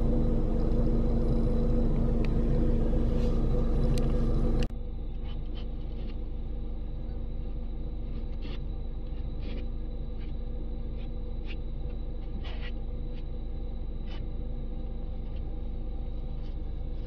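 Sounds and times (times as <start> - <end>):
car engine idling hum: 0.0 - 17.0.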